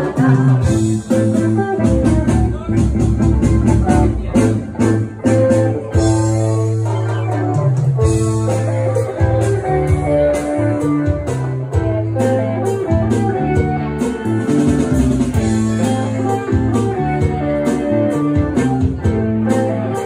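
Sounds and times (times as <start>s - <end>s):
drum kit beat with cymbals: 0.0s - 20.0s
electric guitar: 0.0s - 20.0s
keyboard: 0.0s - 20.0s
low bass line: 0.0s - 20.0s.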